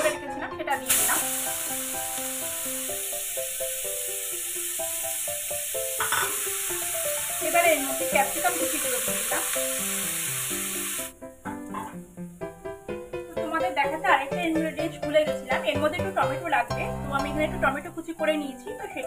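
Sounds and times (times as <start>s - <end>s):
background music: 0.0s - 19.0s
onion sizzling in a pan: 0.7s - 16.6s.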